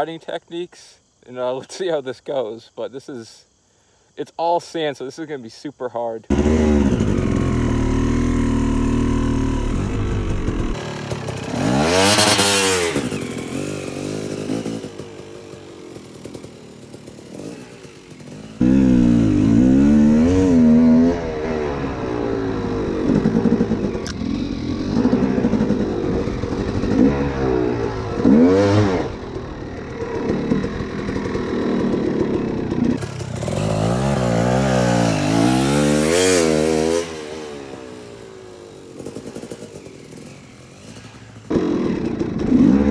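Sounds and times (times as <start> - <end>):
dirt bike engine revving: 6.3 - 42.9.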